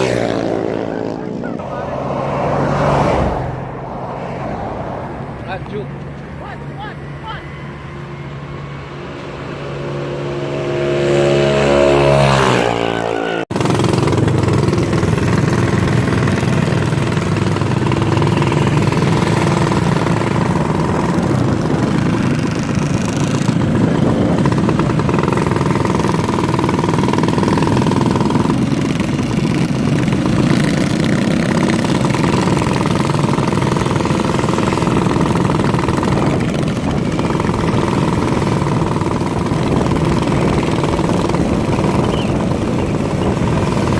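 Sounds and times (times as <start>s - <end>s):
minibike engine revving: 0.0s - 3.6s, 6.4s - 43.9s.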